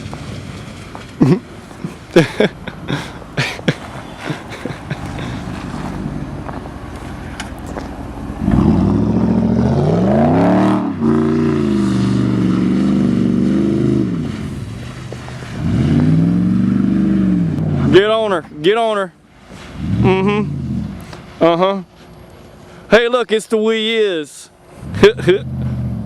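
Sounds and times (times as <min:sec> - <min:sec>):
truck engine revving hard: 0:00.0 - 0:18.2, 0:19.6 - 0:21.2, 0:24.8 - 0:26.0.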